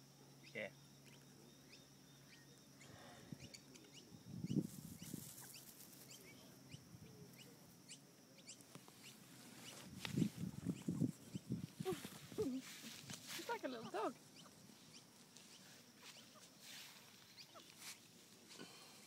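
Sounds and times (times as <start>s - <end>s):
faint bird chirps: 0.0s - 19.0s
high insect tone: 0.0s - 19.0s.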